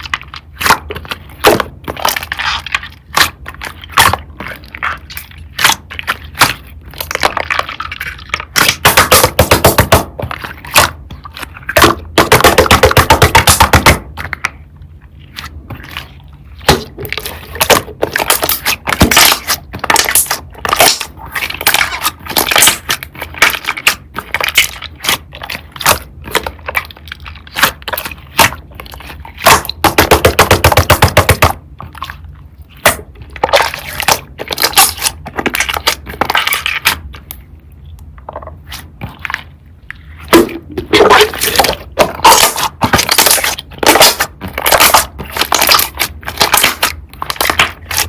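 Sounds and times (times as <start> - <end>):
slime squelching with wet pops: 0.0 - 48.0.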